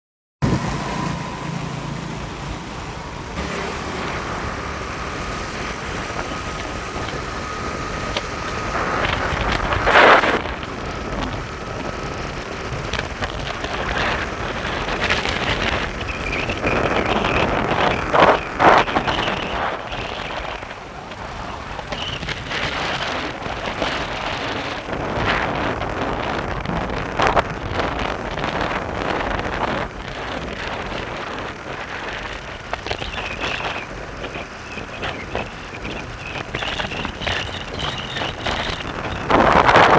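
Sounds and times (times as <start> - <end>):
road and wind noise: 0.4 - 39.9.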